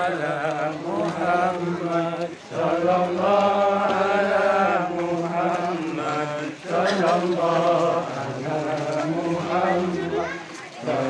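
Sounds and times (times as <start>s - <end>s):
voices chanting: 0.0s - 11.0s.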